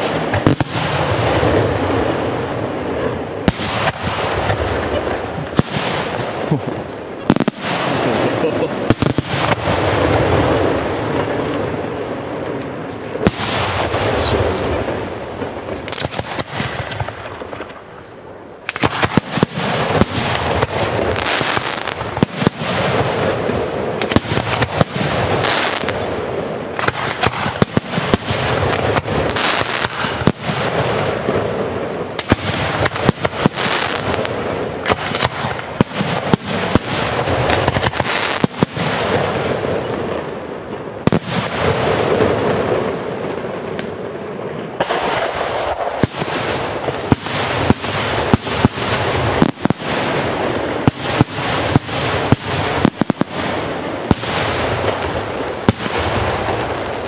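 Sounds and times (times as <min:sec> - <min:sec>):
fireworks bursting with bangs: 0:00.0 - 0:57.0
fireworks crackle: 0:00.0 - 0:57.0.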